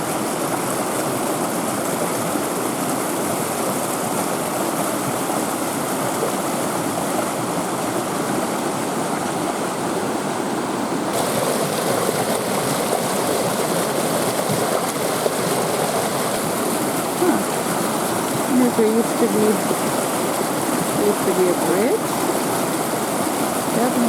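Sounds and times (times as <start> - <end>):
creek and waterfall rushing: 0.0 - 24.0.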